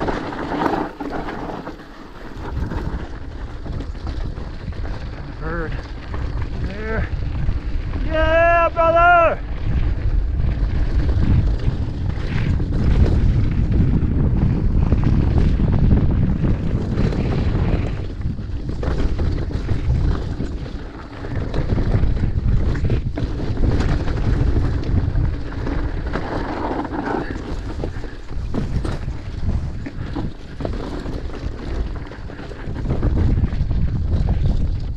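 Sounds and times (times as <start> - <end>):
bike rumbling on rocky trail: 0.0 - 34.9
wind buffeting microphone: 0.0 - 34.9.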